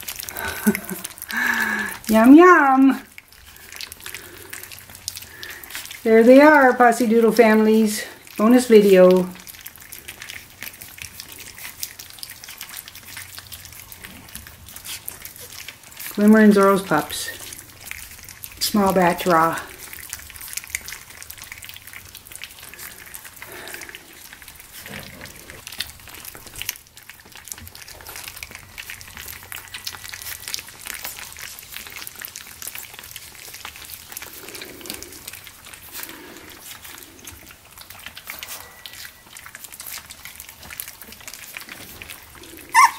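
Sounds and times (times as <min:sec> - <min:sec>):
puppies eating: 0:00.0 - 0:42.9
soft low puppy sounds: 0:00.0 - 0:42.9.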